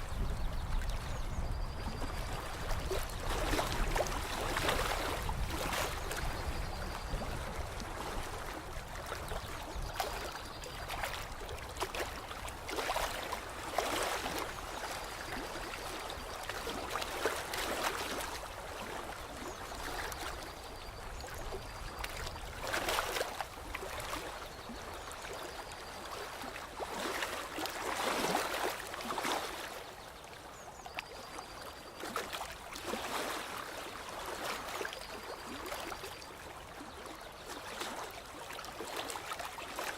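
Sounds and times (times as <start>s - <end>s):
water lapping and splashing: 0.0s - 39.9s.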